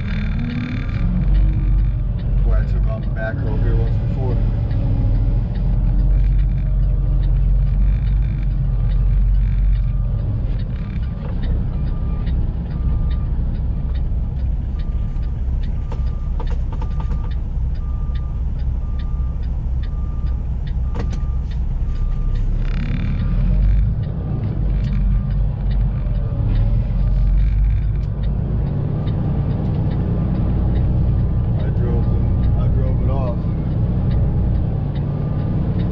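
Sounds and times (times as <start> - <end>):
truck diesel engine rumbling: 0.0 - 35.9.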